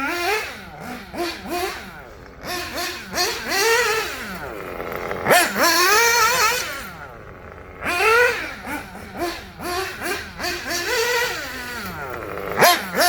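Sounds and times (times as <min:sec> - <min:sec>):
model buggy engine revving: 0:00.0 - 0:13.0.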